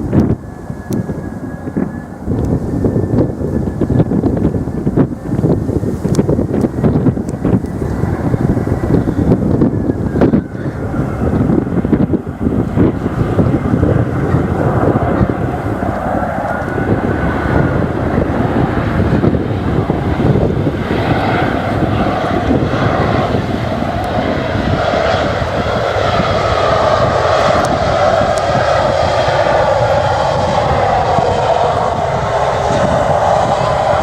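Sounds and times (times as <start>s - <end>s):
airliner engines running: 0.0s - 34.0s
wind buffeting microphone: 0.0s - 34.0s.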